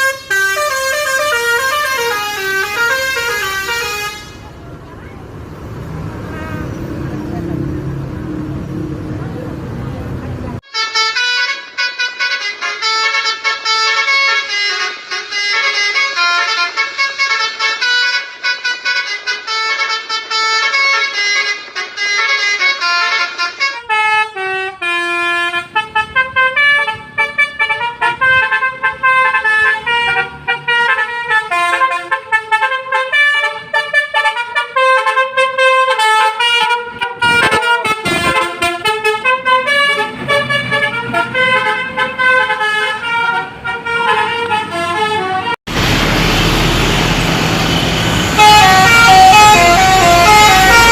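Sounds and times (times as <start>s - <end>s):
multi-tone musical bus horn: 0.0s - 4.7s, 6.1s - 7.4s, 10.6s - 45.9s, 46.7s - 50.9s.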